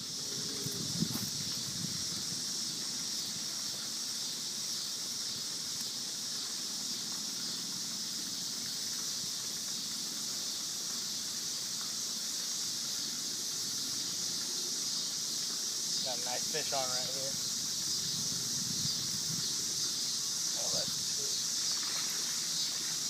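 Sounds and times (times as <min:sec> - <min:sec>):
chorus of night insects: 0:00.0 - 0:23.0.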